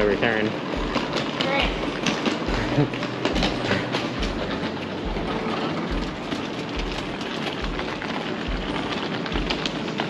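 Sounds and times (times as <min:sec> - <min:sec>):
suitcase wheels rolling on tiles: 0:00.0 - 0:10.0.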